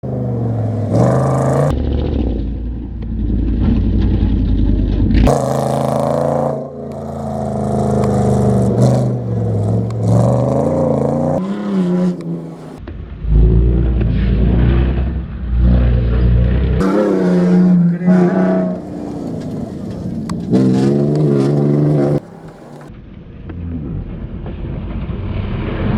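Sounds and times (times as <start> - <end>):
truck engine revving: 0.0 - 22.9.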